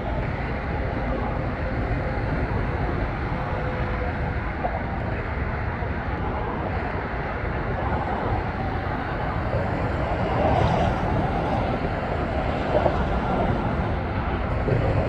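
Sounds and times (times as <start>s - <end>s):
distant diesel freight train rumble: 0.0s - 15.0s.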